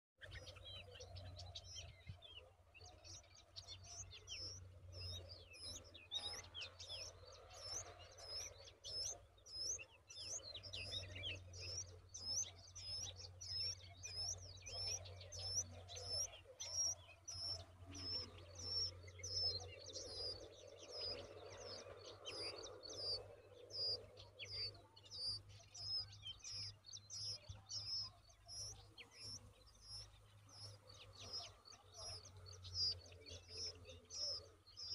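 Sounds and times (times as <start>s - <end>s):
nestlings chirping: 4.0s - 34.9s.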